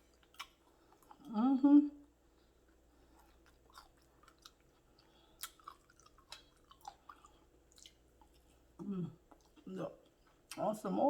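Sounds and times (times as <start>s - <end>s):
chewing food: 0.0s - 1.3s, 2.3s - 10.7s.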